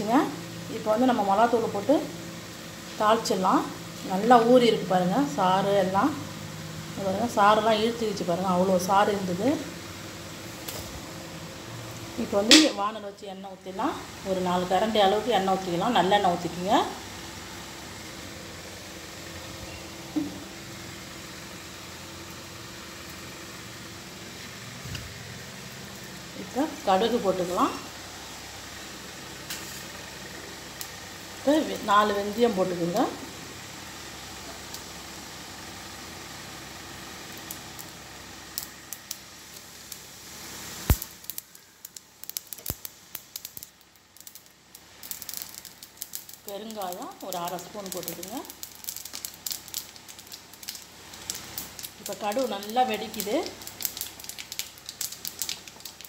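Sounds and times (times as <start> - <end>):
gas stove burner hiss and hum: 0.0 - 56.0
hot oil sizzling: 0.0 - 56.0
seeds crackling and popping in oil: 0.0 - 56.0.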